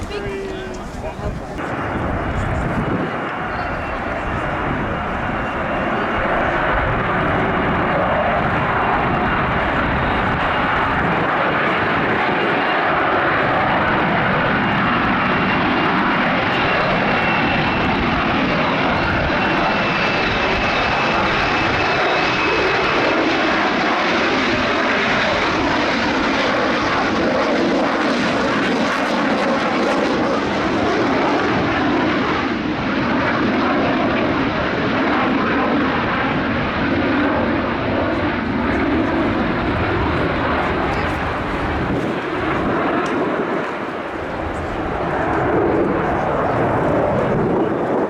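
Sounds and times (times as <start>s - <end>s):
jet engine running loud: 0.0s - 48.0s.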